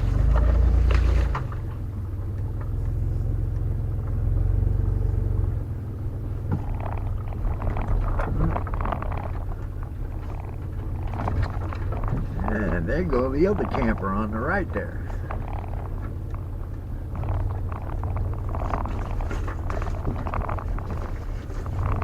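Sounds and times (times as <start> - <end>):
crackling and scraping: 0.0 - 3.4, 6.2 - 22.0
vehicle engine running low: 0.0 - 22.0.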